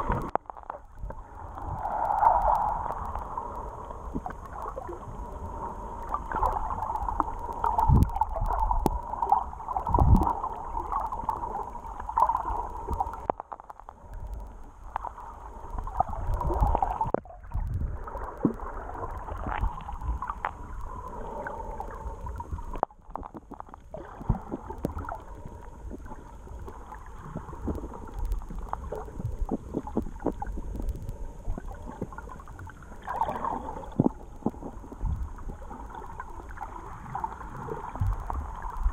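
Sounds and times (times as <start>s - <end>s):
muffled underwater rushing water: 0.0s - 38.9s
small clicks and crackles: 0.0s - 38.9s.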